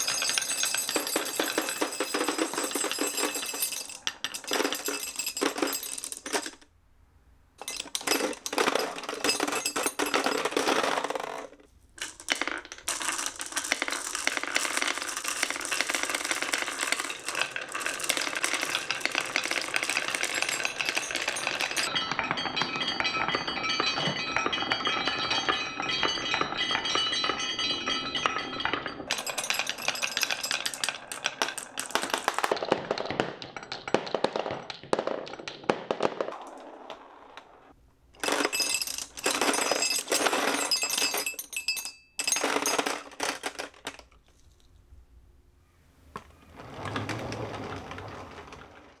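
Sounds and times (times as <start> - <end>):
marbles rolling on wooden run: 0.0 - 6.6, 7.6 - 22.0, 23.0 - 44.7, 46.1 - 49.0.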